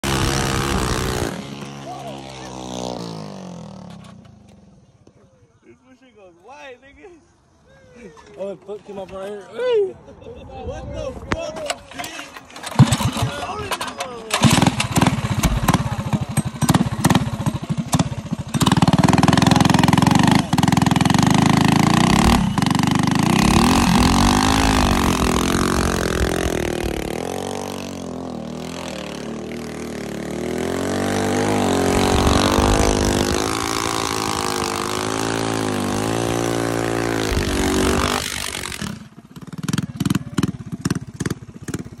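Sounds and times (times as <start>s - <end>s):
minibike engine revving: 0.0s - 4.9s, 12.0s - 42.0s.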